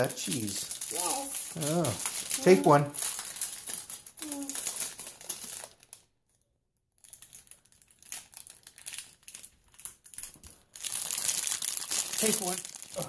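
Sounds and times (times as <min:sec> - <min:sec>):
plastic wrapping crinkling: 0:00.0 - 0:06.1, 0:07.0 - 0:13.0.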